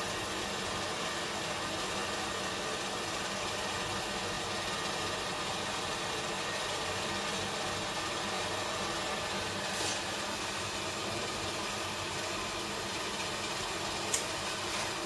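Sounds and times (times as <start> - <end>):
furnace hiss: 0.0 - 15.0.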